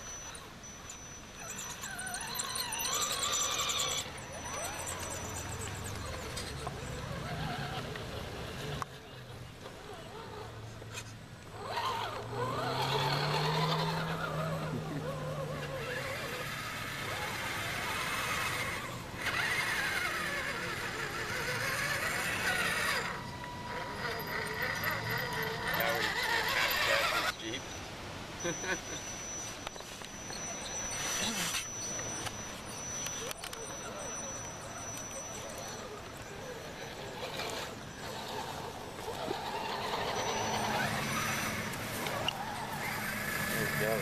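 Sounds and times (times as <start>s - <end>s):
toy truck motor whining: 0.0s - 44.0s.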